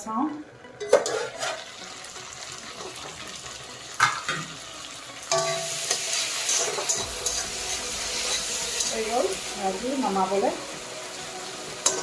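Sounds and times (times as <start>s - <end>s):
food sizzling in a pan: 0.9s - 12.0s.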